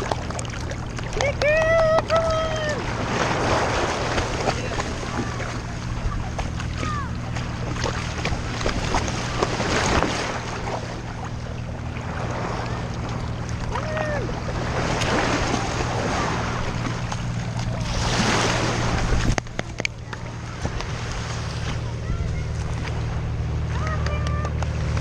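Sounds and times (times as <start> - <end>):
surf and wind rushing: 0.0 - 24.8
steady low hum: 0.0 - 25.0.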